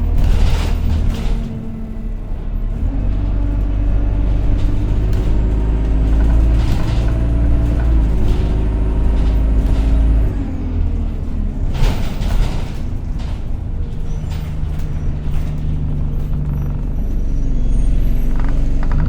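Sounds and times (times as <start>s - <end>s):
bus engine rumble with whine: 0.0s - 19.0s.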